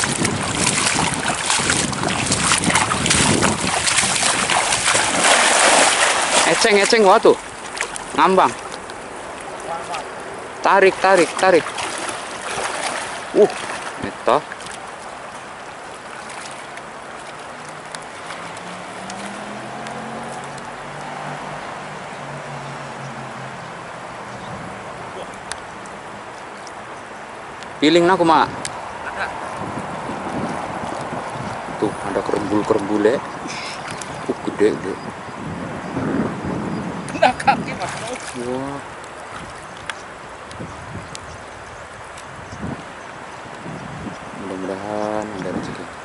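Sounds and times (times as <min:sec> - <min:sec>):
drips and small splashes: 0:00.0 - 0:24.3, 0:24.9 - 0:27.8, 0:28.6 - 0:35.3, 0:37.1 - 0:46.0
shallow river water rushing: 0:00.0 - 0:46.0
wind buffeting microphone: 0:00.0 - 0:46.0.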